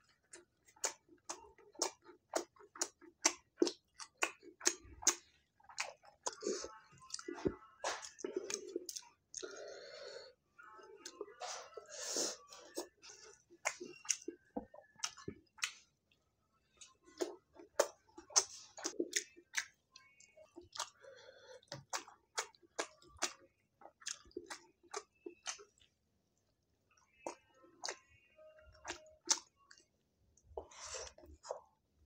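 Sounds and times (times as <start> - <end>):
person chewing food: 0.0 - 31.8.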